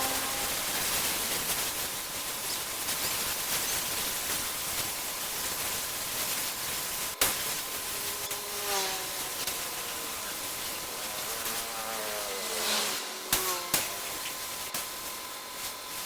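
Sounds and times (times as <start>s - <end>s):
paint spray gun hissing: 0.0s - 16.0s.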